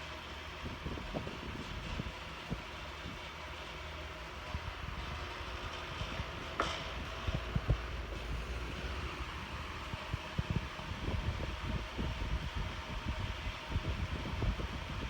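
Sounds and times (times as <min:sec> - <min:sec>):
airflow buffeting microphone: 0:00.0 - 0:15.0
faint thin fan hum: 0:00.0 - 0:15.0.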